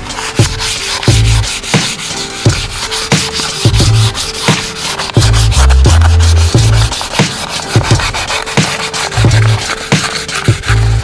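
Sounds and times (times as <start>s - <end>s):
background music with beat and bass: 0.0s - 11.0s
hand sanding on steel panel: 0.0s - 11.0s.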